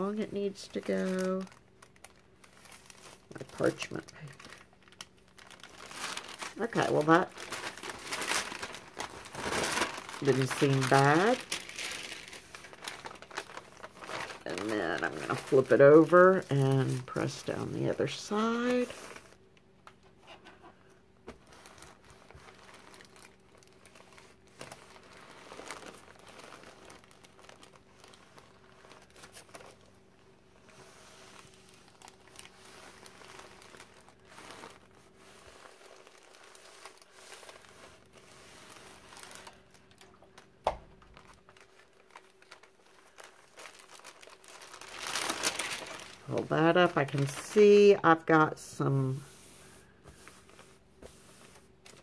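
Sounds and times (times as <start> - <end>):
parchment paper rustling: 0.0 - 52.0.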